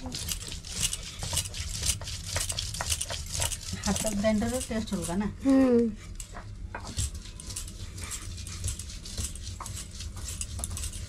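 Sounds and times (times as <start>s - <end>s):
knife scraping potato: 0.0s - 11.0s.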